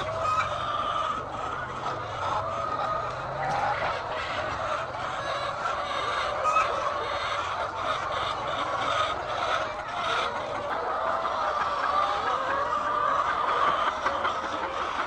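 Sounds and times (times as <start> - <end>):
chickens clucking and calling: 0.0 - 15.0.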